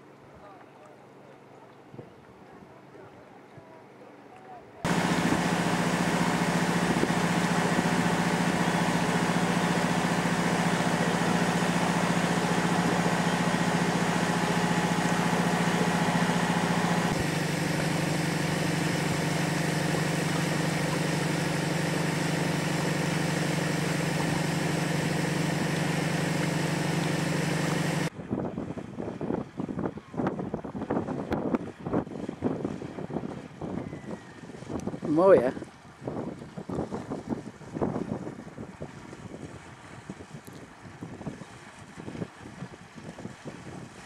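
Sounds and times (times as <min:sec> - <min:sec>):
boat engine humming: 0:00.0 - 0:28.1, 0:29.5 - 0:44.0.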